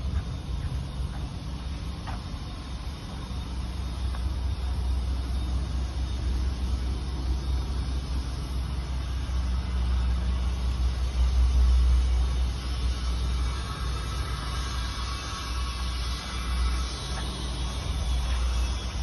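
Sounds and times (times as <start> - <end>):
pressure washer running: 0.0 - 19.0.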